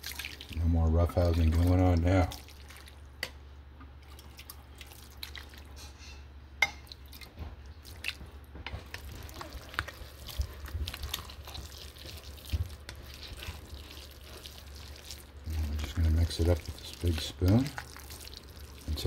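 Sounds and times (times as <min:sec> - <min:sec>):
spoon stirring wet food: 0:00.0 - 0:19.0.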